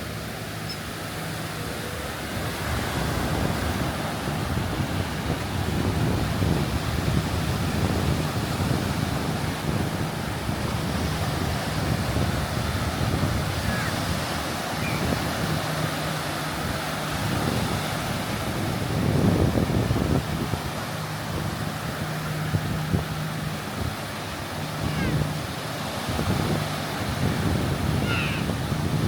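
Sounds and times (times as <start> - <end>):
surf washing onto beach: 0.0 - 29.0
wind buffeting microphone: 1.8 - 29.0.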